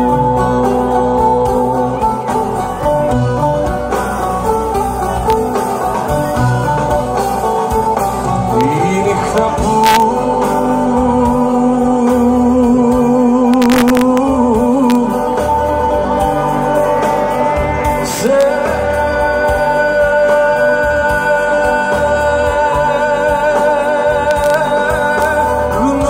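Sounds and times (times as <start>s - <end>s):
man singing into a microphone: 0.0s - 3.5s, 6.2s - 26.0s
instrumental accompaniment: 0.0s - 26.0s.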